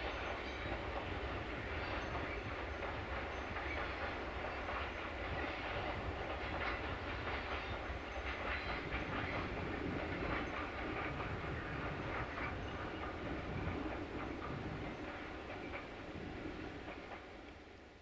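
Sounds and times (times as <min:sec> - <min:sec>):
train rumble: 0:00.0 - 0:18.0
train wheels clicking on rails: 0:00.0 - 0:18.0.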